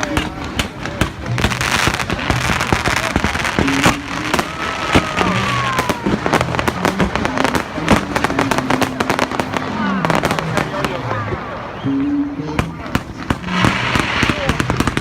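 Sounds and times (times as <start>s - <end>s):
fireworks bursting and crackling: 0.0s - 11.7s, 12.4s - 15.0s.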